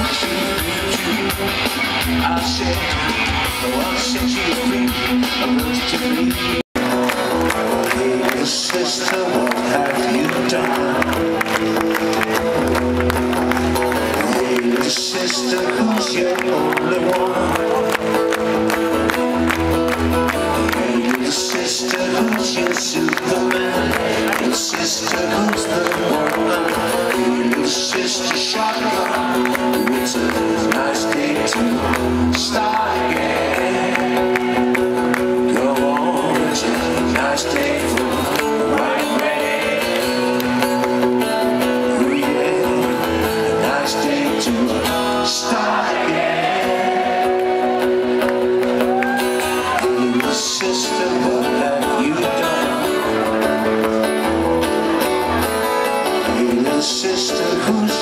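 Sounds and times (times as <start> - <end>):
man singing: 0.0 - 13.0, 13.7 - 58.0
live rock band playing: 0.0 - 58.0.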